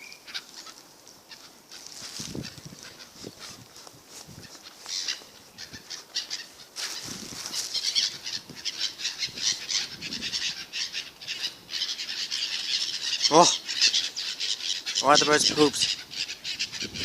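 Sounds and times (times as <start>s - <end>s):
gulls and birds calling: 0.0s - 17.0s.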